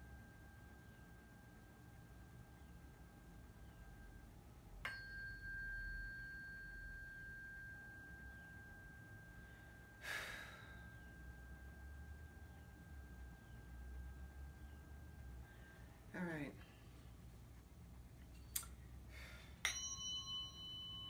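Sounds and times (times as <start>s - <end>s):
tuning fork ringing: 0.0s - 16.6s, 19.6s - 21.0s.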